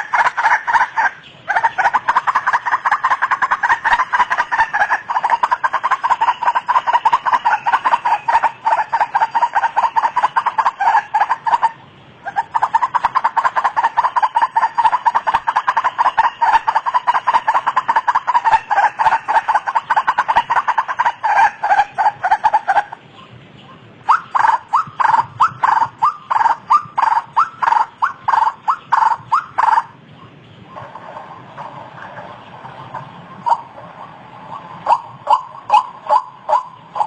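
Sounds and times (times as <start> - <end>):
waterhen calling: 0.0 - 37.0.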